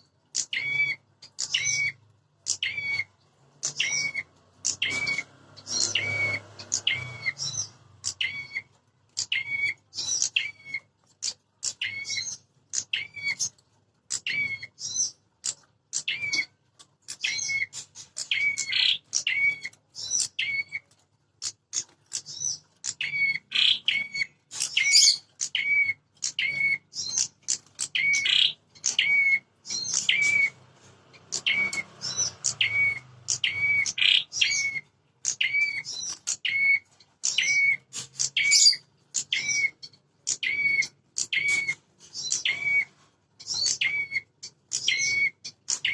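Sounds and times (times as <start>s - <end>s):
birds chirping sharply: 0.0s - 45.9s.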